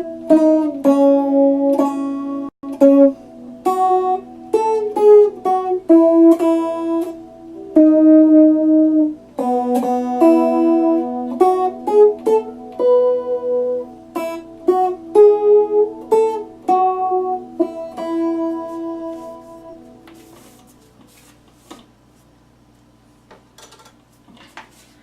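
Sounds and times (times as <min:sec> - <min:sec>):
electric guitar slow melody: 0:00.0 - 0:21.3.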